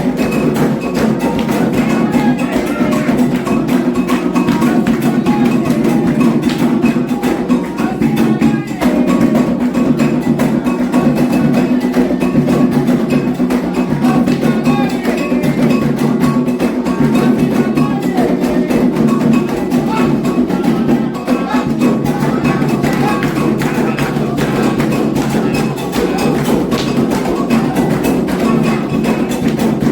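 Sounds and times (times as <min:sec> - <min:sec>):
hand drums: 0:00.0 - 0:29.9
voices singing: 0:00.0 - 0:29.9.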